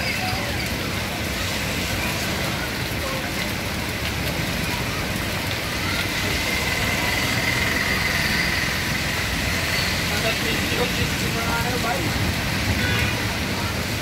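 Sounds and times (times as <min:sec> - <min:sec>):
steady rain: 0:00.0 - 0:14.0
vehicles passing on wet street: 0:00.0 - 0:14.0.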